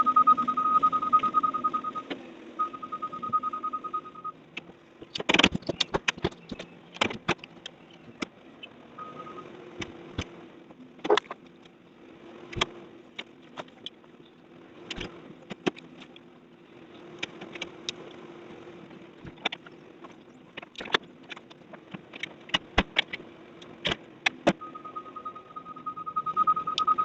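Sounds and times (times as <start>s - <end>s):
heavy equipment engine running: 0.0s - 27.0s.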